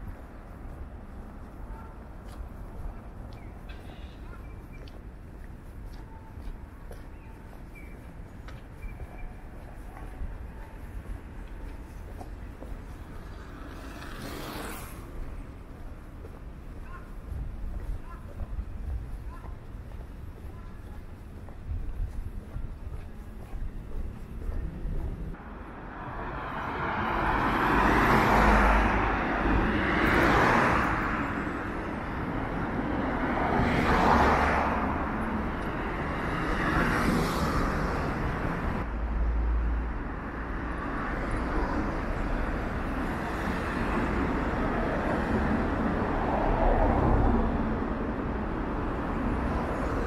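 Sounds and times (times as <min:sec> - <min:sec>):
cars passing: 0:00.0 - 0:50.0
street noise hum: 0:00.0 - 0:50.0.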